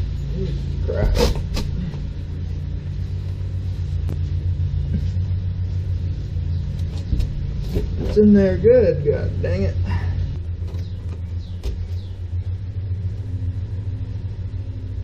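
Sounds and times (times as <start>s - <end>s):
low rumble and hum: 0.0s - 15.0s.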